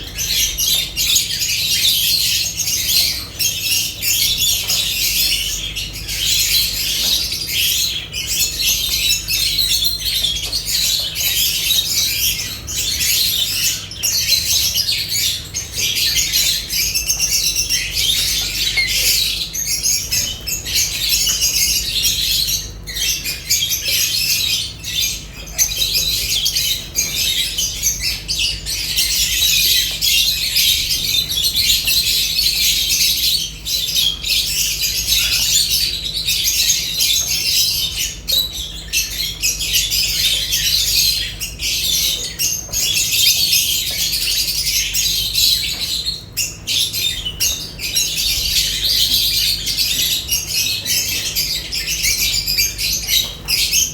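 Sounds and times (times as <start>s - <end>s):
lovebirds chattering and squawking: 0.0s - 53.9s.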